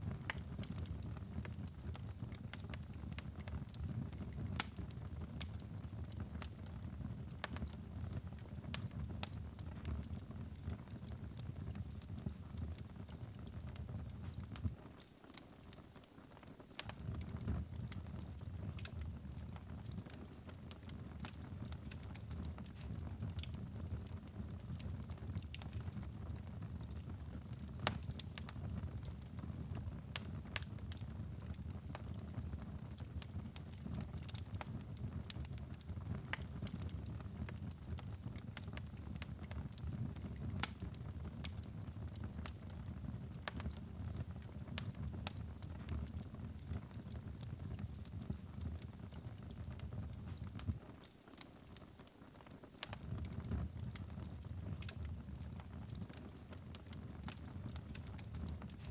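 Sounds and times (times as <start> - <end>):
low rumble of flames: 0.0 - 14.8, 16.8 - 50.8, 52.8 - 58.9
wood fire crackling and popping: 0.0 - 58.9.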